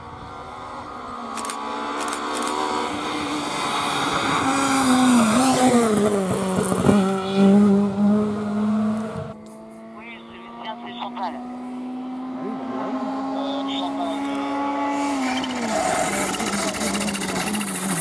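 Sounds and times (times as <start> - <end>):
rally car engine passing at speed: 0.0 - 18.0.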